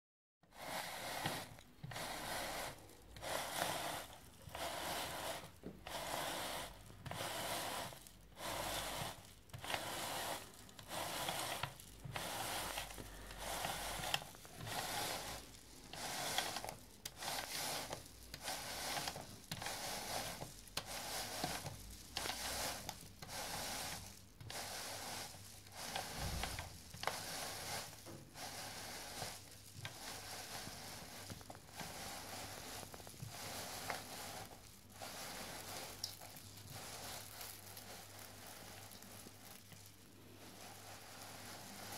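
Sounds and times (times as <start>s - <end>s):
flakes rustling against screw conveyor: 0.5s - 41.9s.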